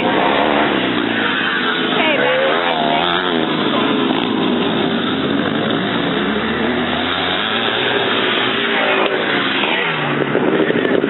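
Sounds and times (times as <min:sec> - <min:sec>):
motorcycles racing: 0:00.0 - 0:11.0.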